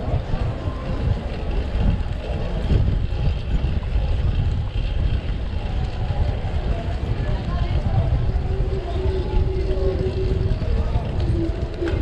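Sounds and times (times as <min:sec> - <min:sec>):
street traffic: 0:00.0 - 0:12.0
wind buffeting microphone: 0:00.0 - 0:12.0.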